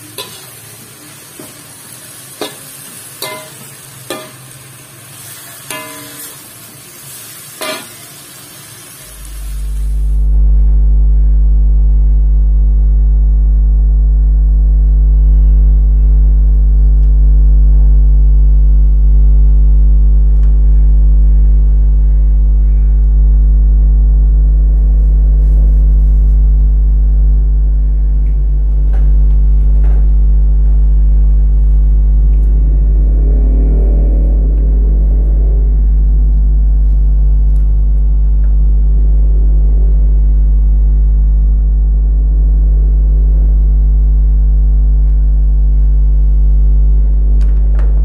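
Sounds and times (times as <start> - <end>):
loud buzzy low hum: 9.0 - 48.0.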